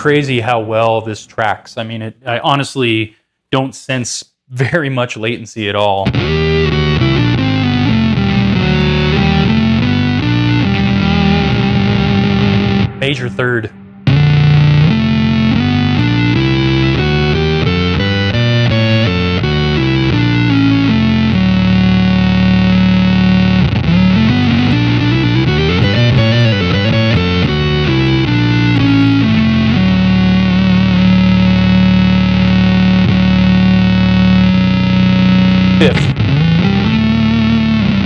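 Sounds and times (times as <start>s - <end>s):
electric guitar through synth pedal: 6.1s - 13.0s, 13.8s - 38.0s.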